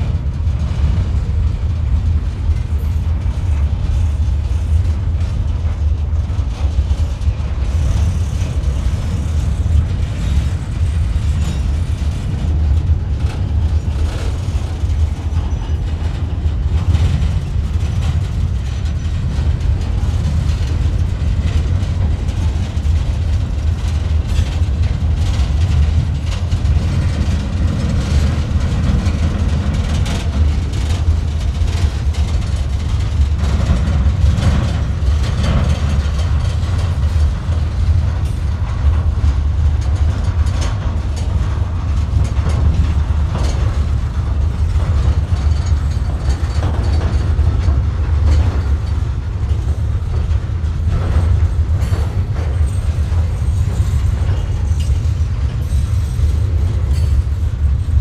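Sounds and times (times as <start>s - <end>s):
train wheels rumbling on rails: 0.0s - 58.0s
clicks and clanks: 6.4s - 57.8s.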